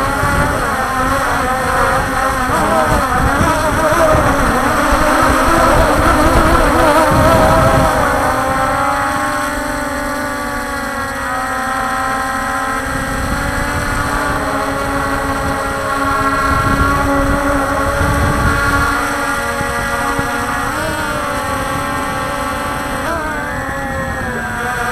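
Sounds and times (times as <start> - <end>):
drone propellers humming: 0.0 - 24.9
wind rumble on microphone: 0.0 - 24.9.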